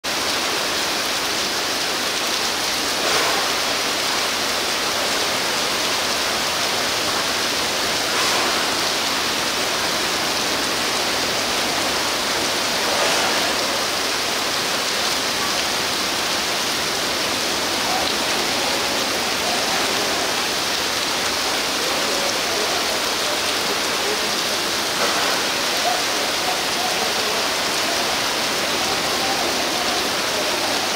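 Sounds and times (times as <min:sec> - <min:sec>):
heavy rain on water: 0:00.0 - 0:30.9.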